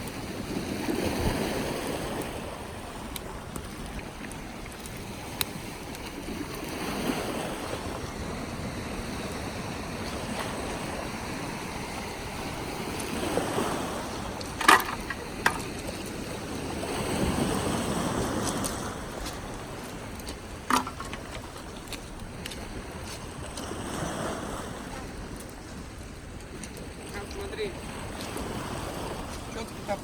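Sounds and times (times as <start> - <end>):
sea waves washing onto shore: 0.0 - 30.0.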